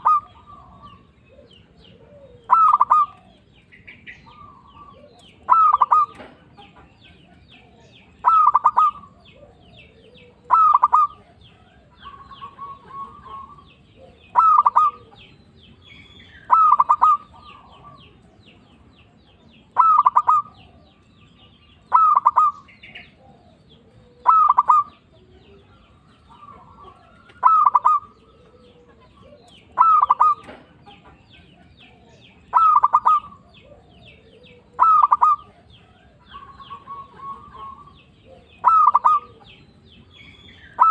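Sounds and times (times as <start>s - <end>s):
dove cooing: 0.0s - 40.9s
small birds chirping: 0.0s - 40.9s.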